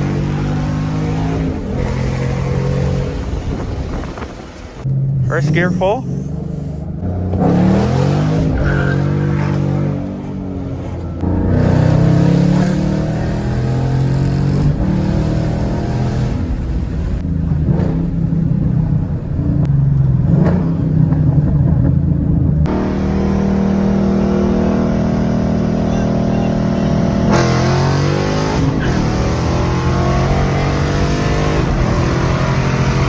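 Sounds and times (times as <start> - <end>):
car engine revving hard: 0.0 - 19.0, 22.6 - 33.0.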